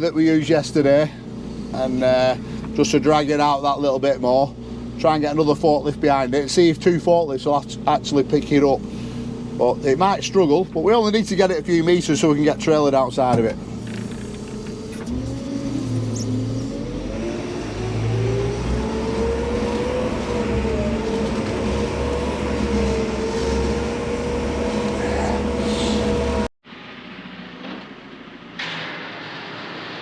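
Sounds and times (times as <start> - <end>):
engine revving: 0.0 - 26.5.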